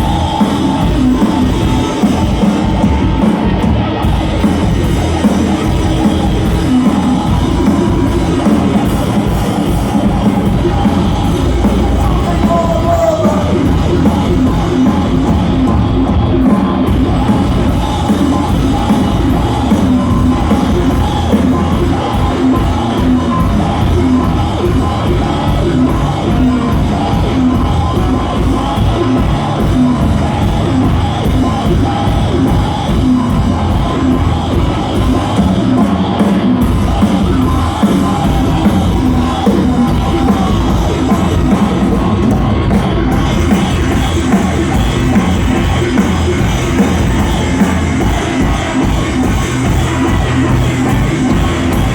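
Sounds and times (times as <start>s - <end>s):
live rock band playing: 0.0s - 51.9s
yelled vocals: 0.0s - 51.9s.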